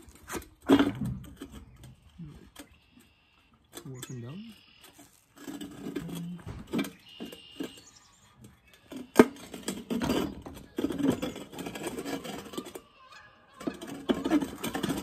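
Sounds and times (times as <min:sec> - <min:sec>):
metal frame knocking and scraping: 0:00.0 - 0:02.7, 0:04.9 - 0:15.0.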